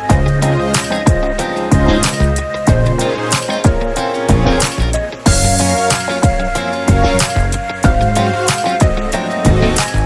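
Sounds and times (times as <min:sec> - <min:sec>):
drums: 0:00.0 - 0:10.0
plucked and strummed guitar: 0:00.0 - 0:10.0.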